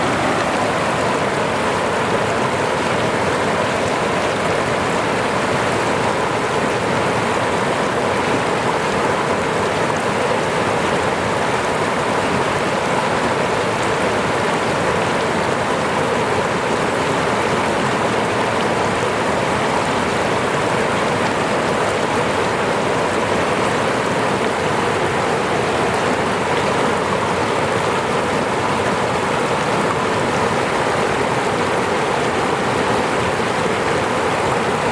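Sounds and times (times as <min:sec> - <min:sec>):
falling water rushing: 0:00.0 - 0:34.9.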